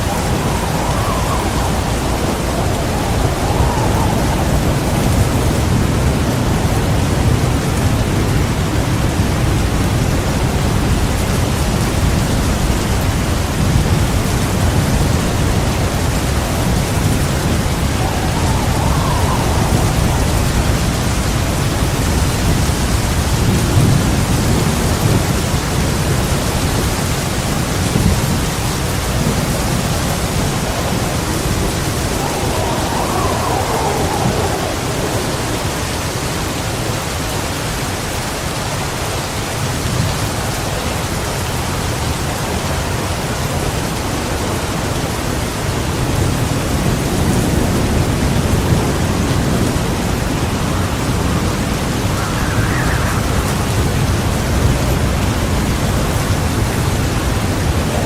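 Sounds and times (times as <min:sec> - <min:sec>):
rolling thunder: 0:00.0 - 0:38.2, 0:43.0 - 0:58.0
heavy rain pouring: 0:00.0 - 0:58.0.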